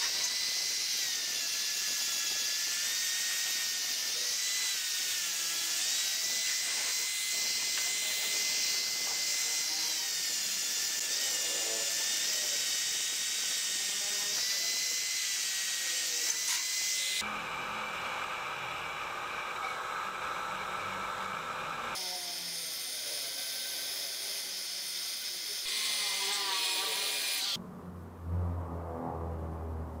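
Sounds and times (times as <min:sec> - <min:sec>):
angle grinder grinding metal: 0:00.0 - 0:27.6.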